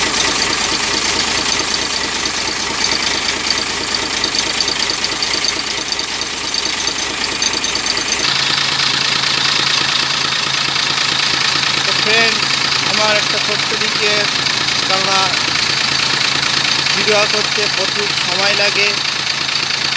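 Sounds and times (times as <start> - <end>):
diesel engine idling: 0.0 - 19.9.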